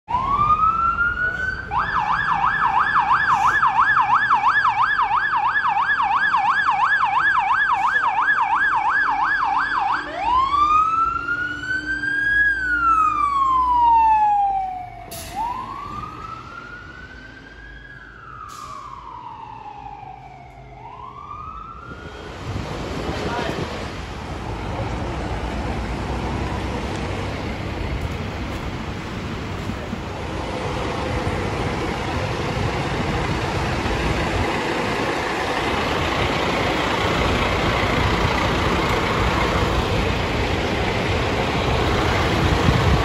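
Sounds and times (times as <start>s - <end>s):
fire truck siren: 0.1s - 23.4s, 25.3s - 43.0s.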